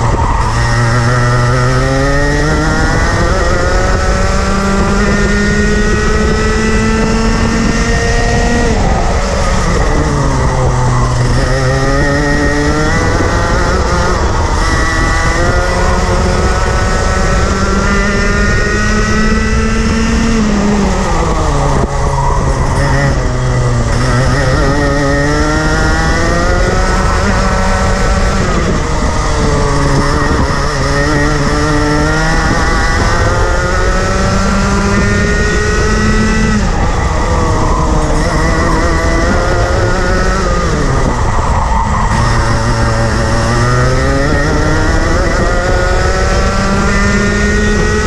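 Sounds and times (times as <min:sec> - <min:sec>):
kart engine at racing speed: 0:00.0 - 0:48.0.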